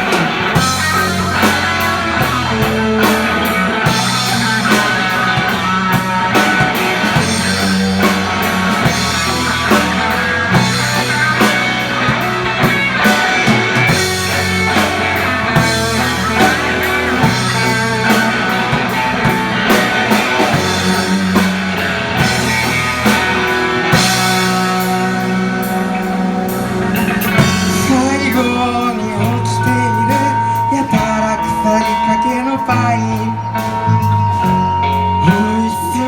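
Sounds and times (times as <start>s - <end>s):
drum-kit beat: 0.0s - 35.6s
rock guitars: 0.0s - 36.0s.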